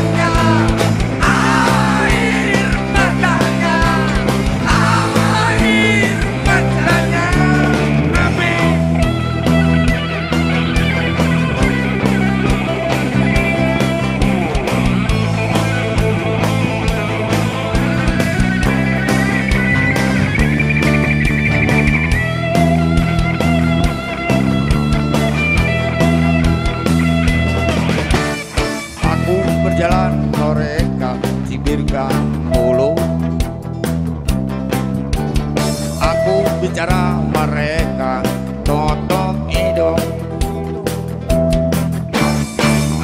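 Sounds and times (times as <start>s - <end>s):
electric guitar lead: 0.0s - 43.0s
live rock band playing: 0.0s - 43.0s.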